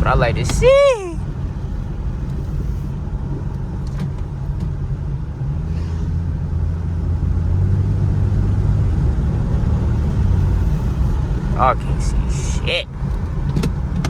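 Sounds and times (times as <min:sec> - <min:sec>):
car engine drone: 0:00.0 - 0:14.0
road noise: 0:00.0 - 0:14.0.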